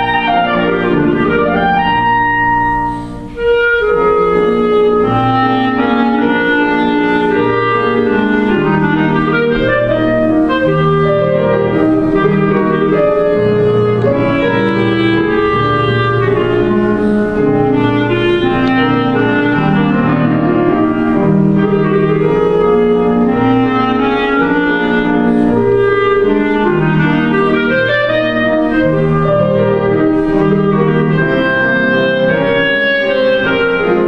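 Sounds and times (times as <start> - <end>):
clarinet melody: 0.0 - 34.0
piano accompaniment: 0.0 - 34.0.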